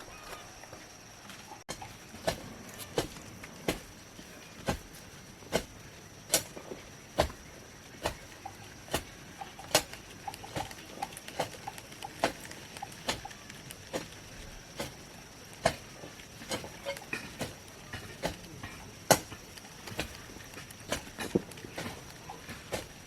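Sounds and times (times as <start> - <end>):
hoe striking soil: 1.7 - 13.3, 13.9 - 23.0.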